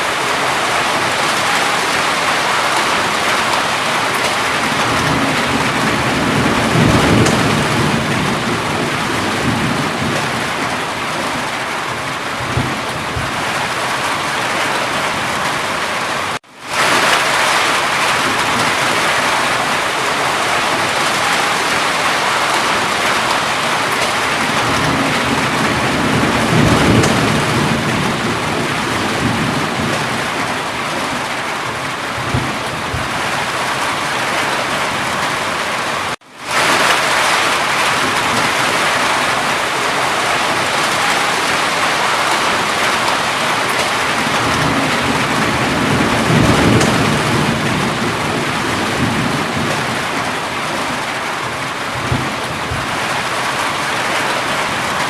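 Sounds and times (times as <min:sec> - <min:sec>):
heavy rain falling: 0:00.0 - 0:55.0
distant thunder rumbling: 0:00.1 - 0:15.8, 0:16.8 - 0:35.4, 0:36.5 - 0:54.3.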